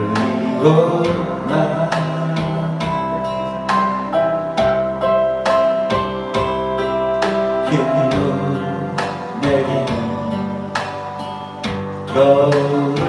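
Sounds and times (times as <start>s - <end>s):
person singing: 0.0s - 6.1s, 7.1s - 13.0s
guitar over held chords: 0.0s - 13.0s
instrumental backing track: 0.0s - 13.0s.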